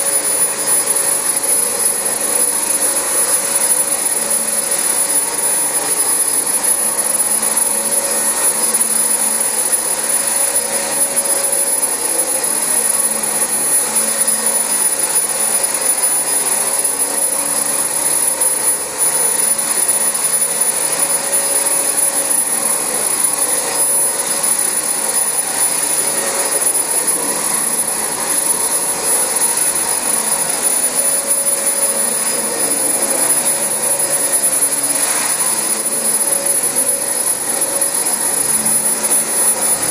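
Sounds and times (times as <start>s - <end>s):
vacuum cleaner whining on carpet: 0.0s - 39.9s.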